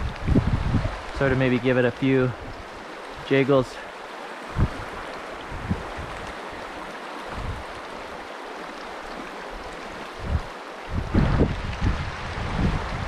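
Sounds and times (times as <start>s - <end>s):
wind buffeting microphone: 0.0s - 3.4s, 4.4s - 8.1s, 9.1s - 13.0s
river rushing over gravel: 0.0s - 13.0s.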